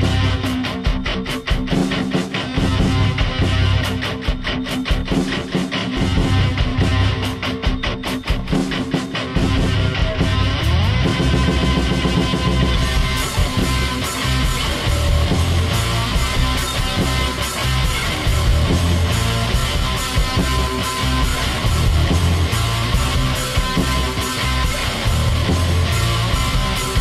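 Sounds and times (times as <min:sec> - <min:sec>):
rock music with electric guitar: 0:00.0 - 0:27.0.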